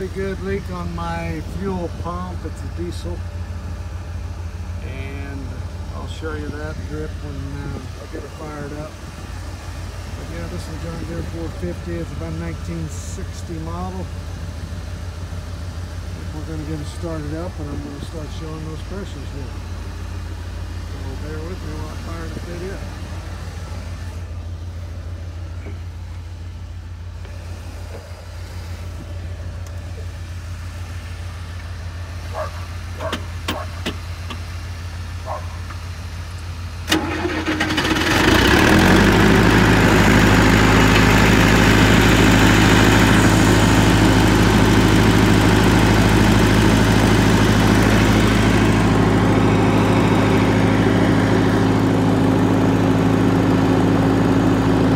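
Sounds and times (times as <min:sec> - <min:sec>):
diesel engine starting and running: 0:00.0 - 0:54.9.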